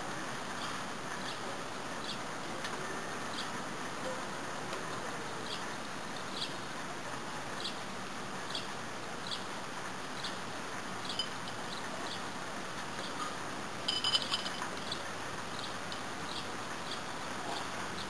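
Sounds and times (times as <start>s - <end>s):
light rain hiss: 0.0s - 18.0s.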